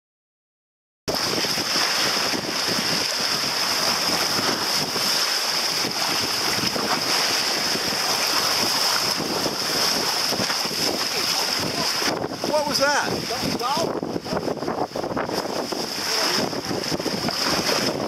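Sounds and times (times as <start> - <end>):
water rushing along a hull: 1.1 - 18.0
wind buffeting microphone: 1.1 - 18.0.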